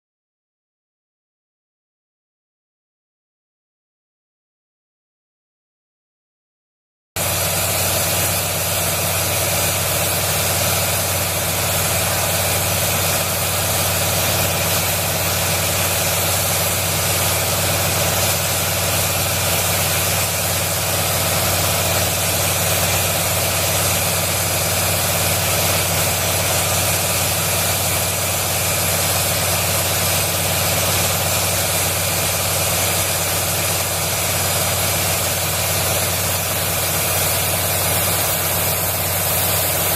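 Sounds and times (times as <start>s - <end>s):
fan hum and drone: 7.2s - 39.9s.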